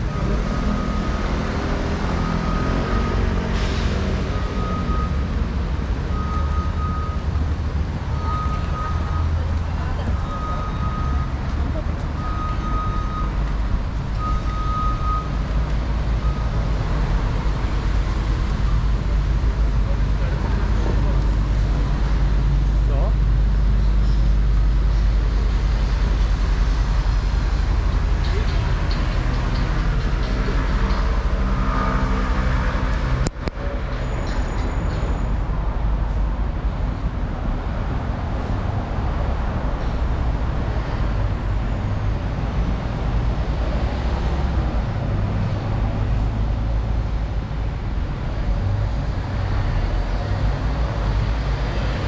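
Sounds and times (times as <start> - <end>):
road traffic rumbling: 0.0 - 52.0.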